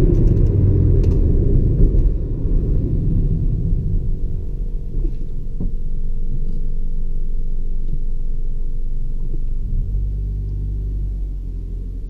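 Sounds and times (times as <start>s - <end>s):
car engine running: 0.0s - 12.0s
road rumble: 0.0s - 12.0s.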